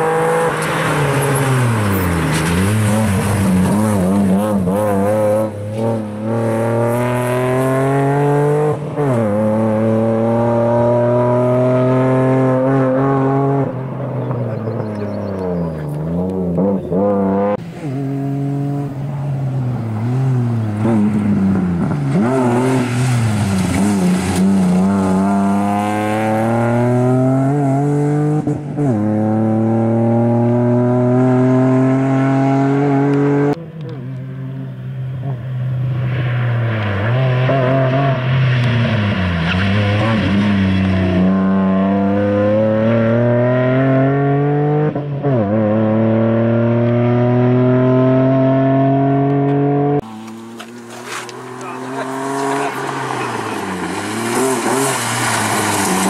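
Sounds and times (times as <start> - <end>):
car engine revving hard: 0.0 - 19.1, 19.8 - 33.6, 36.7 - 56.0.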